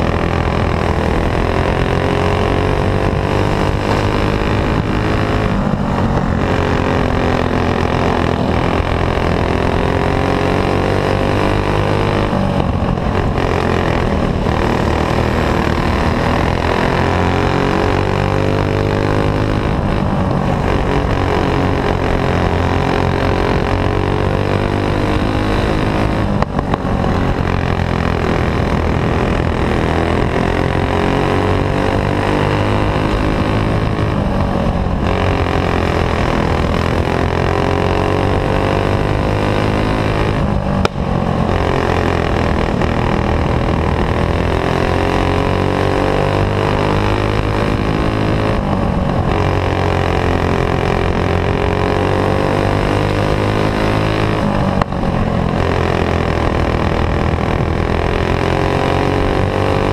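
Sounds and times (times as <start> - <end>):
racing kart engine running hard: 0.0 - 59.9.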